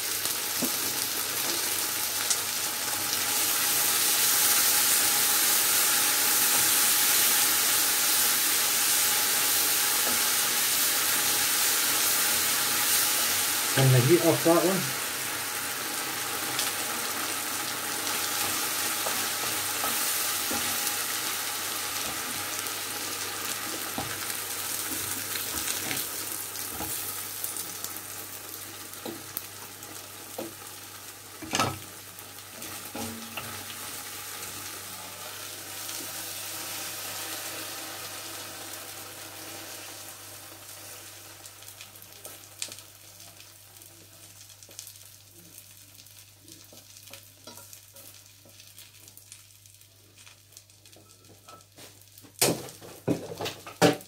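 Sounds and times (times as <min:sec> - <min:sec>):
food sizzling in pans: 0:00.0 - 0:54.0.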